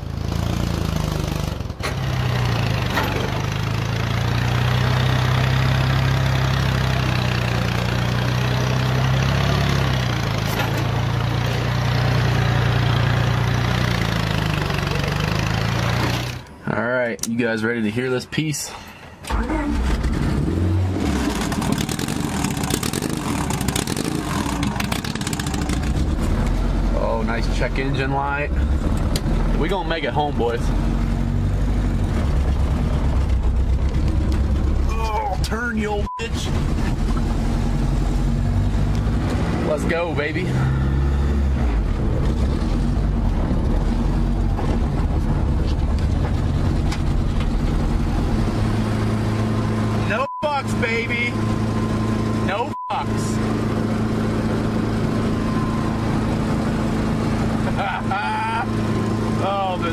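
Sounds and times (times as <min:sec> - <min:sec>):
car engine accelerating: 0:00.0 - 0:16.6, 0:19.3 - 0:59.9.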